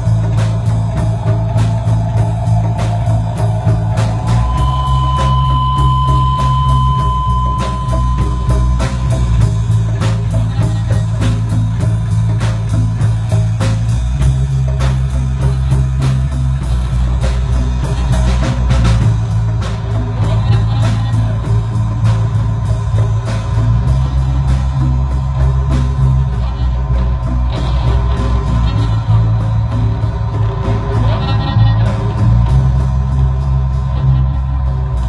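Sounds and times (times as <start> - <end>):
rock band playing: 0.0 - 35.0.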